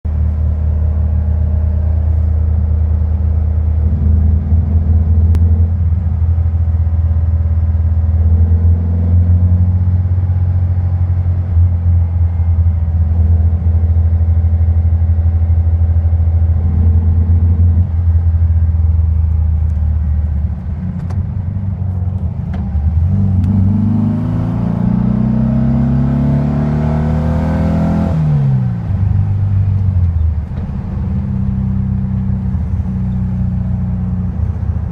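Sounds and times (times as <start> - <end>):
engine idling and revving: 0.0 - 34.9.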